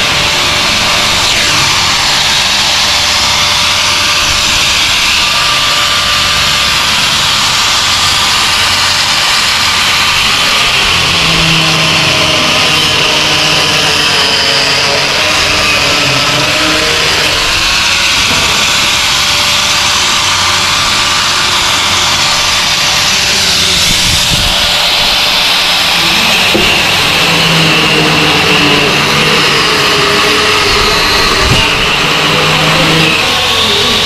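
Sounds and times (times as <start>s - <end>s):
electric drill cutting metal: 0.0s - 34.0s.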